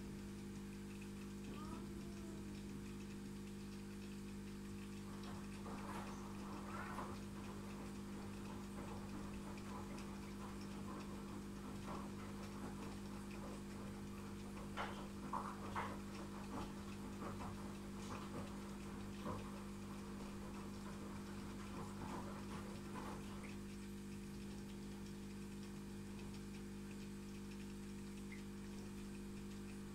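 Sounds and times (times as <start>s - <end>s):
faint ticks and clicks: 0.0s - 29.9s
steady low hum: 0.0s - 29.9s.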